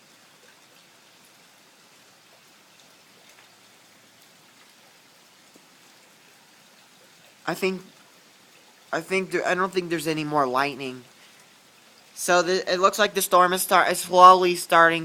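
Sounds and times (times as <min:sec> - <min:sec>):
heavy rain falling: 0:00.0 - 0:15.0
raindrop ticks: 0:00.2 - 0:15.0.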